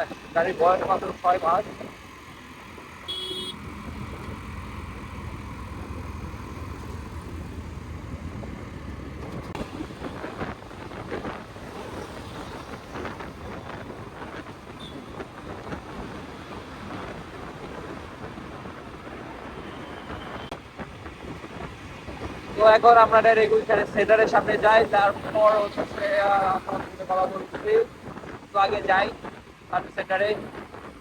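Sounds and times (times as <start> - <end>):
motorcycle engine and traffic hum: 0.0 - 31.0
wind gusting on microphone: 0.0 - 31.0.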